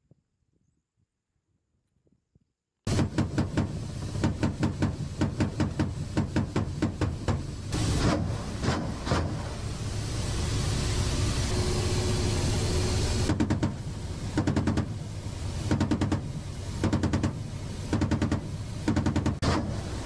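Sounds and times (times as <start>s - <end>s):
helicopter cannon firing bursts: 2.9s - 10.6s, 11.4s - 20.0s.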